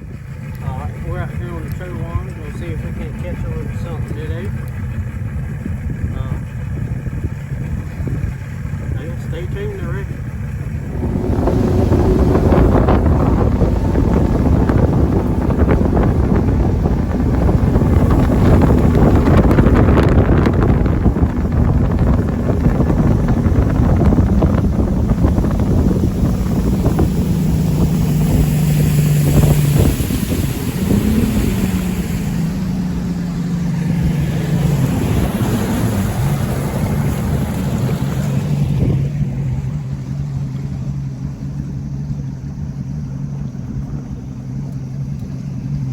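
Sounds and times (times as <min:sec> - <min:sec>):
motorboat engine running: 0:00.0 - 0:45.9
wind buffeting microphone: 0:00.0 - 0:45.9.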